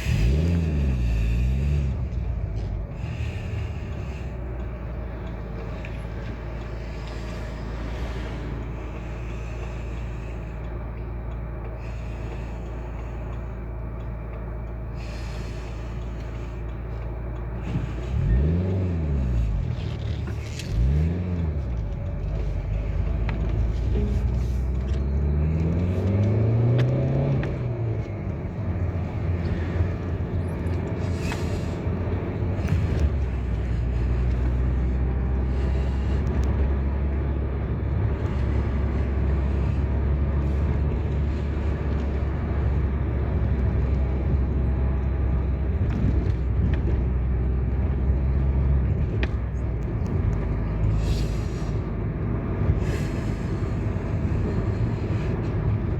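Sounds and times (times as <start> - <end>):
engine cruising rumble: 0.0 - 55.9
vehicle engine accelerating: 0.0 - 55.9.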